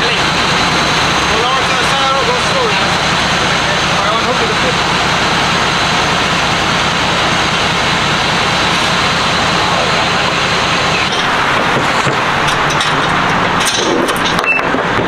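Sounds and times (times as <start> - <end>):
truck engine low drone: 0.0 - 15.0
loud even rushing noise: 0.1 - 15.0.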